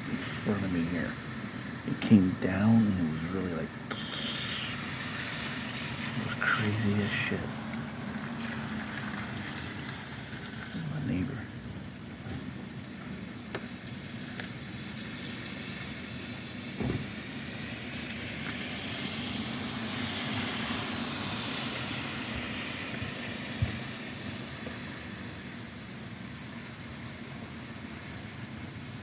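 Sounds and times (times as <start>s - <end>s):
steady background hiss: 0.0s - 29.0s
vehicle tyres hissing on wet road: 0.0s - 29.0s.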